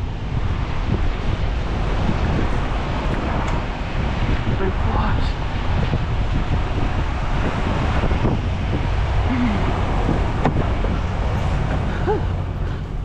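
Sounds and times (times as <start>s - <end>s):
diesel truck engine rumbling: 0.0s - 13.0s
wind noise: 0.0s - 13.0s.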